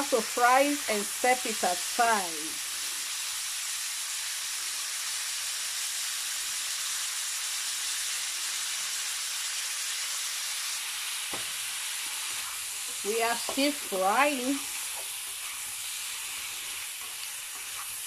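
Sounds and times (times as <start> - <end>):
shrimp sizzling in hot oil: 0.0 - 18.0.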